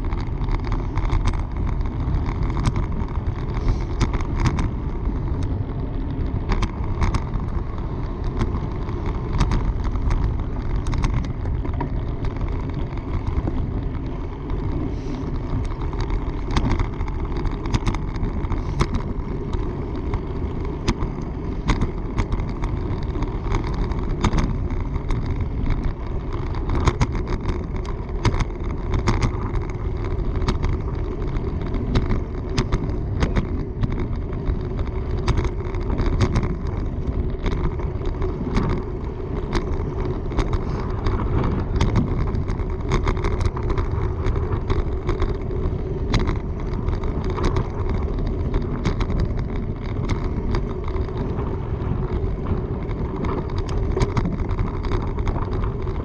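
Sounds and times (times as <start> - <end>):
bike ticks and rattles: 0.0 - 56.0
wind rushing over microphone: 0.0 - 56.0.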